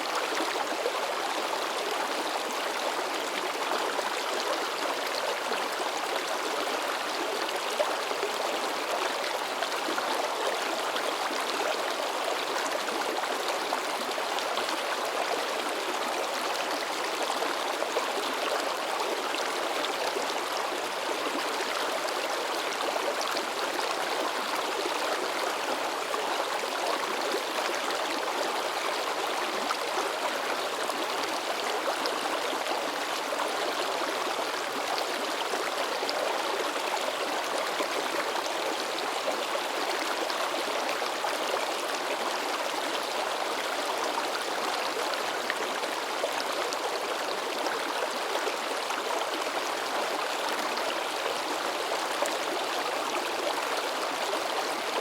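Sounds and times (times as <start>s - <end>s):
river water babbling: 0.0s - 55.0s.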